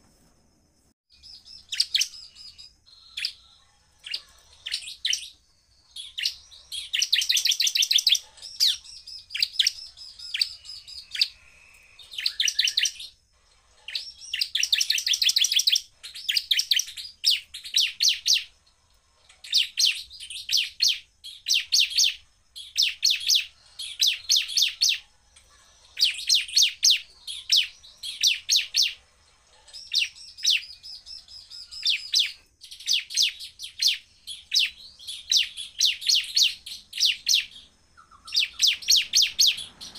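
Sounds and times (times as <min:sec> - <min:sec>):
bird singing rapid high trills: 0:01.1 - 0:39.9.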